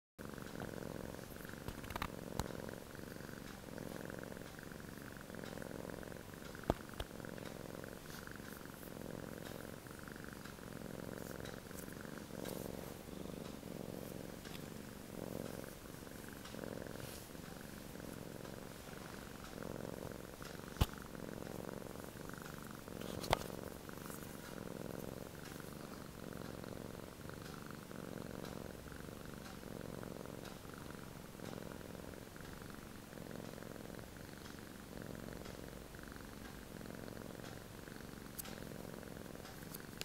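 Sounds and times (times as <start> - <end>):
cat snoring: 0.2 - 40.0.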